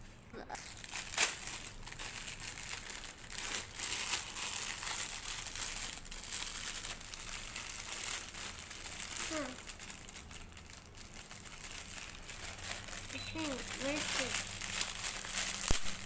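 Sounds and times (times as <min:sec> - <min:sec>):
plastic packaging crinkling: 0:00.4 - 0:16.0.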